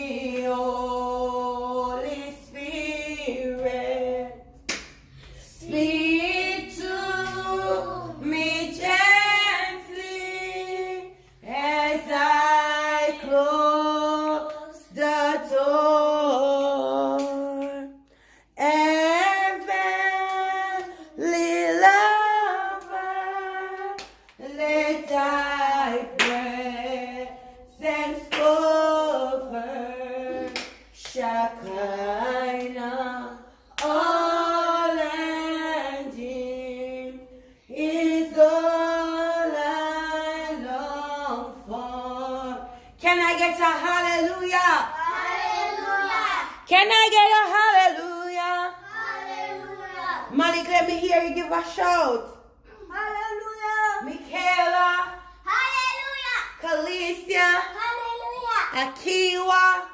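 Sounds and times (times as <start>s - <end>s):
woman singing unaccompanied: 0.0s - 4.6s, 5.5s - 18.0s, 18.6s - 44.9s, 46.7s - 48.8s, 53.0s - 55.3s, 56.6s - 57.7s, 58.8s - 59.9s.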